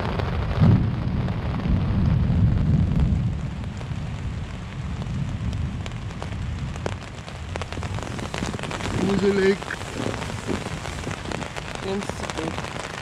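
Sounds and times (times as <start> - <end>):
deep low rumble: 0.0 - 12.6
rain falling: 0.0 - 13.0.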